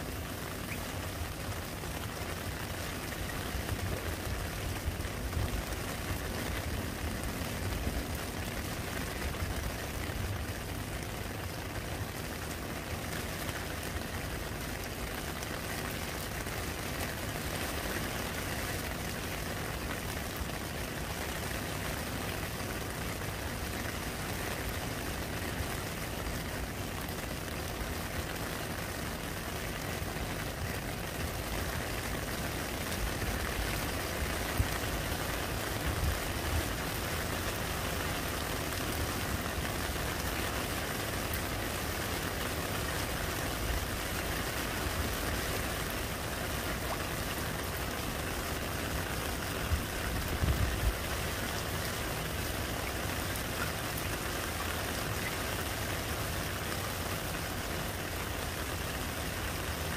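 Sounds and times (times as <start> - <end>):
rain falling on puddle: 0.0 - 59.9.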